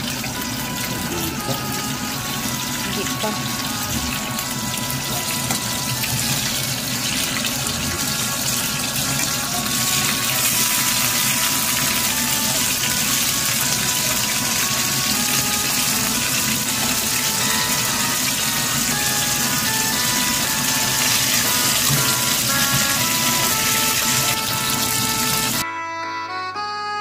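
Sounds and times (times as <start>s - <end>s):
fish frying in hot oil: 0.0s - 25.6s.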